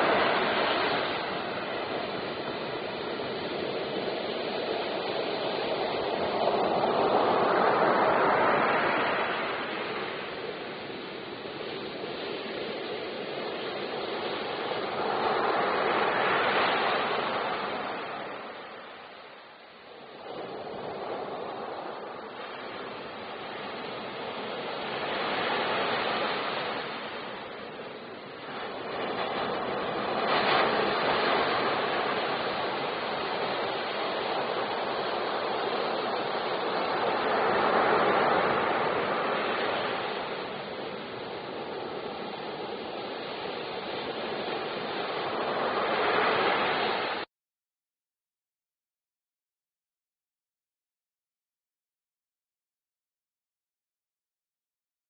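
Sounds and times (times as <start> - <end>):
ocean waves breaking: 0.0 - 47.3.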